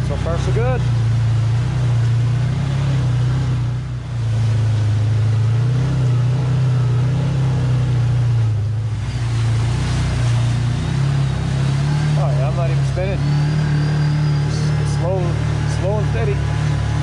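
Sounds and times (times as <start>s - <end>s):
utility vehicle engine running: 0.0s - 17.0s
vehicle rumbling over rough ground: 0.0s - 17.0s.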